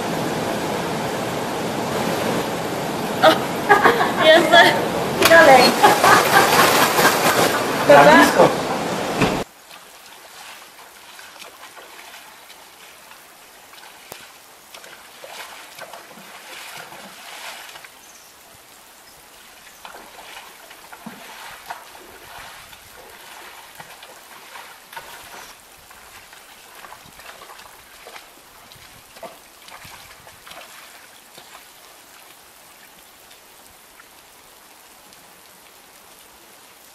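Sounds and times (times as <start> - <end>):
steady rain patter: 0.0 - 36.9
water drips and splashes: 5.1 - 36.9.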